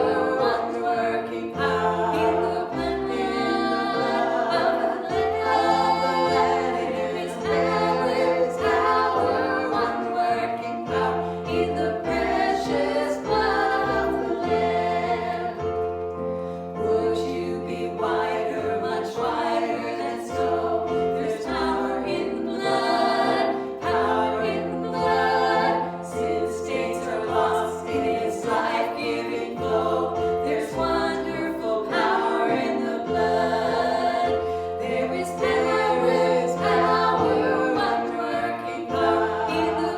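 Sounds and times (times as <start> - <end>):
choir singing gospel: 0.0 - 39.9.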